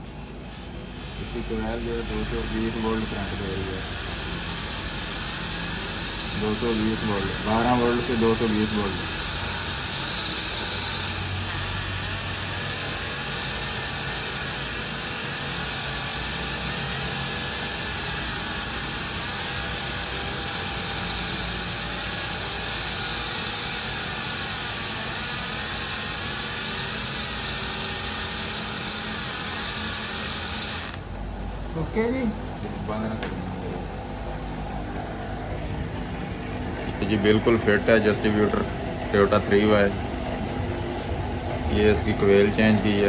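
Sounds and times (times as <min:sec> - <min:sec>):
testing machine running with hiss: 0:00.0 - 0:43.0.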